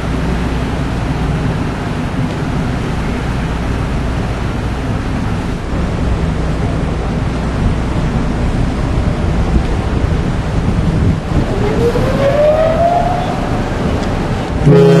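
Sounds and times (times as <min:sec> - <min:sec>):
ferry engines rumbling: 0:00.0 - 0:15.0
water rushing: 0:00.0 - 0:15.0
wind noise: 0:00.0 - 0:15.0.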